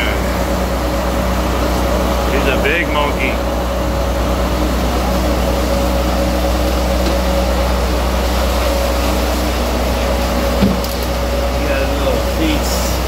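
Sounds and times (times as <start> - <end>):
boat engine droning: 0.0 - 13.0
water washing across deck: 0.0 - 13.0.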